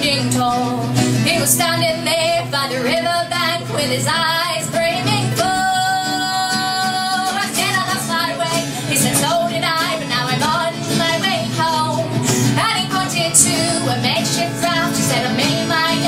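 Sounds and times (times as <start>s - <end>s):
acoustic accompaniment: 0.0s - 16.0s
woman singing: 0.0s - 16.0s.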